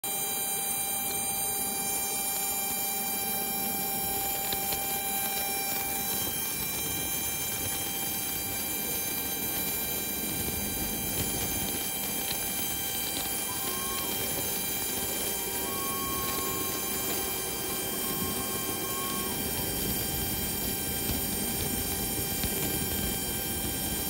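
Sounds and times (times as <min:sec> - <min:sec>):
jet turbine whine: 0:00.0 - 0:24.0.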